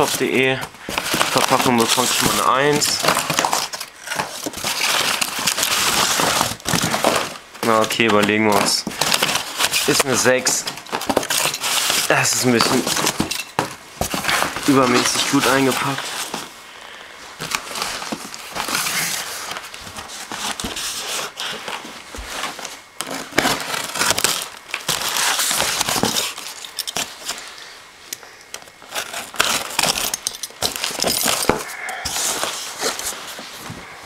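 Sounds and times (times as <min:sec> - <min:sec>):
packing paper crinkling: 0:00.0 - 0:16.6, 0:17.3 - 0:27.7, 0:28.5 - 0:33.9.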